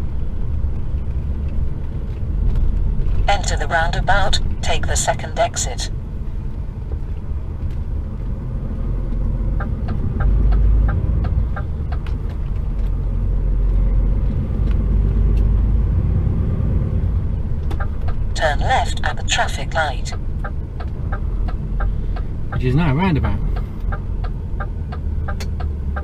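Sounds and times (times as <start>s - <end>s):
truck diesel engine rumble: 0.0s - 26.0s.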